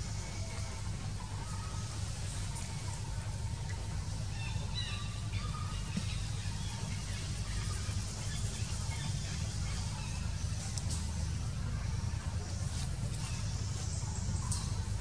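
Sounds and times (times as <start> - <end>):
bird chirps and twitters: 0.0 - 15.0
steady low rumble: 0.0 - 15.0.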